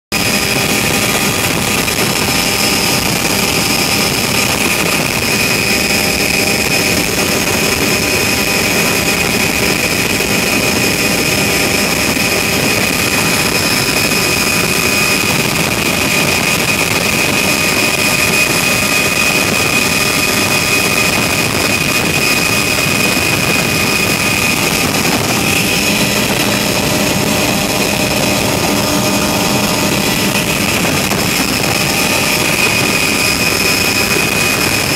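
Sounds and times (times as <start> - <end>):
propeller aircraft cabin drone: 0.1 - 34.9.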